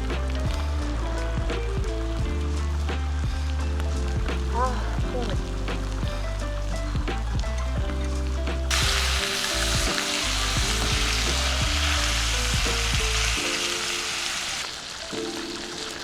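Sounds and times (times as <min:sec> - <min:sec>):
food frying in a pan: 0:00.0 - 0:16.0.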